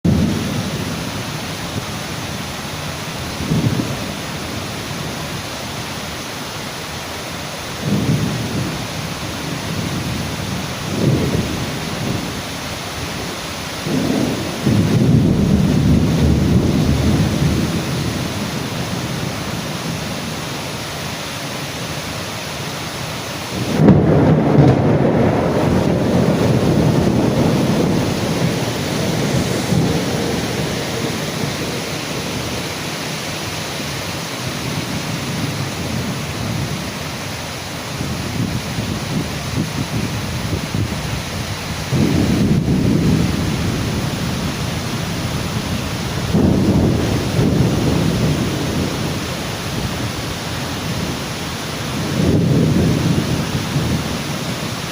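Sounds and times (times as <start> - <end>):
low thunder rumbles: 0.0 - 5.7, 7.6 - 20.6, 23.4 - 54.9
rain hissing: 0.0 - 54.9.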